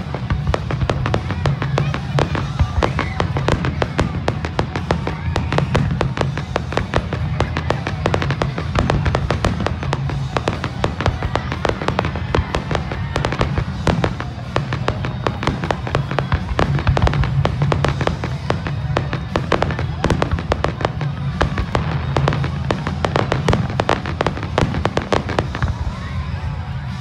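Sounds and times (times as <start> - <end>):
fireworks popping and crackling: 0.0 - 27.0.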